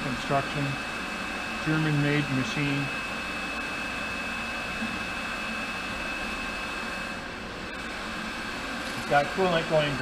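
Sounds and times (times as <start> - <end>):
band saw running idle: 0.0 - 10.0.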